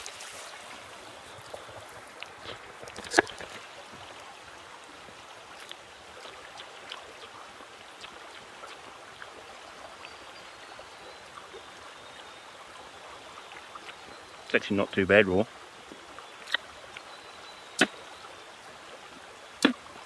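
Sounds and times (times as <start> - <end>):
small stream flowing: 0.0 - 20.0.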